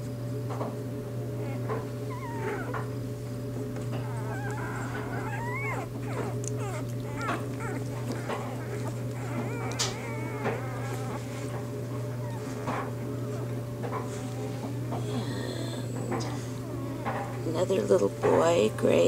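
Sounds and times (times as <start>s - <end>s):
puppies whimpering: 1.2s - 19.0s.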